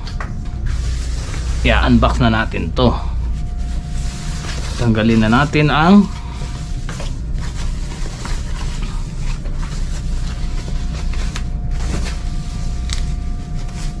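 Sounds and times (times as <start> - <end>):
low machinery hum: 0.0 - 14.0
plastic wrapping crinkling: 0.0 - 14.0.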